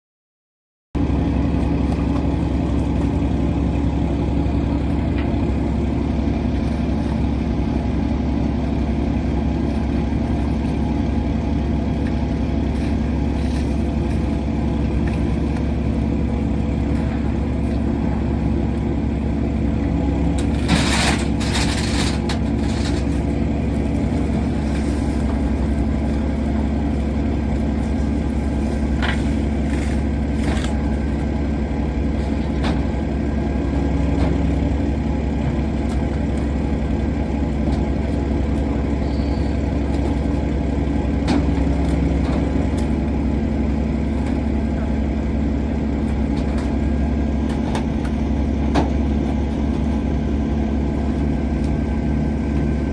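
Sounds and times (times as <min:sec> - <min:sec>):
diesel engine droning: 0:01.0 - 0:52.9.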